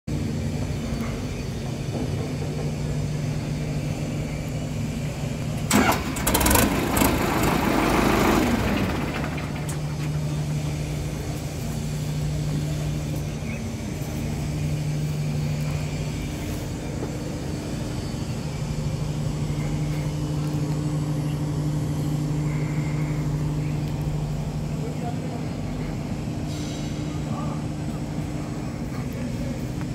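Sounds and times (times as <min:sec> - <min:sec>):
tractor diesel engine idling: 0:00.1 - 0:29.9.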